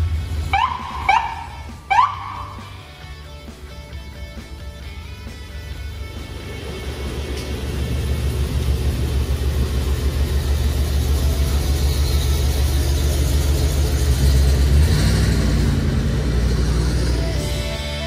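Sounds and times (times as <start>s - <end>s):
ambulance engine rumbling: 0.0s - 18.0s.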